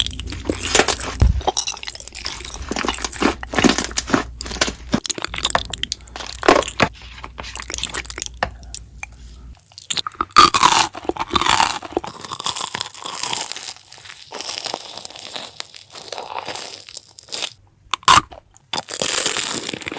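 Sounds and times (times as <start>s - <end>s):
close-up crunching and crackling: 0.0s - 19.9s.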